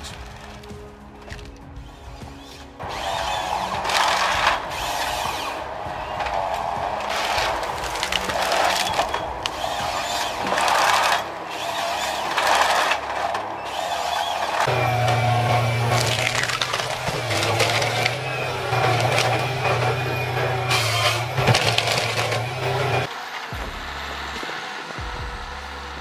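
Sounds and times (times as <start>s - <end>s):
harvester head crunching and scraping: 0.0s - 23.1s
low engine hum: 0.0s - 26.0s
machine engine hum: 0.0s - 26.0s.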